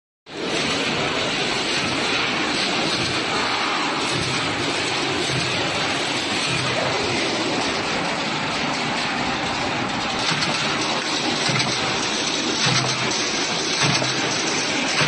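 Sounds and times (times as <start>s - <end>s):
machine hissing: 0.3s - 15.0s.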